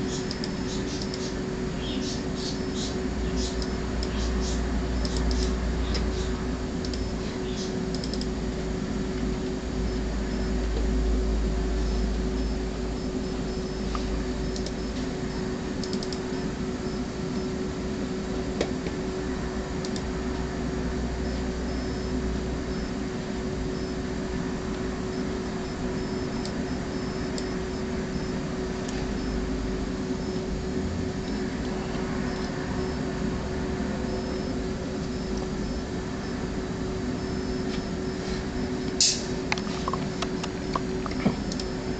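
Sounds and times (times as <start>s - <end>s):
machine hum: 0.0s - 41.9s.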